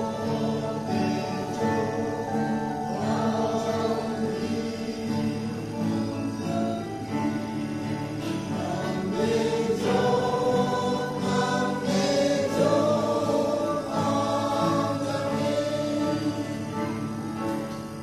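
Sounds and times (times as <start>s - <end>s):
mixed choir singing a hymn: 0.0s - 18.0s.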